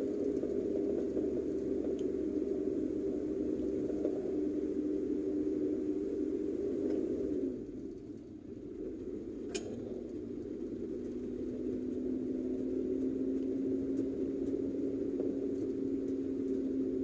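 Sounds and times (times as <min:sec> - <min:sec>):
car engine and road hum: 0:00.0 - 0:17.0
low drone: 0:00.0 - 0:17.0.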